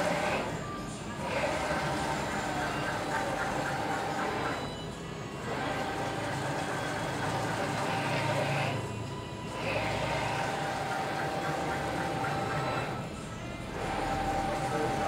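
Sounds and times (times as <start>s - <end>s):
printer carriage whirring: 0.0s - 15.0s.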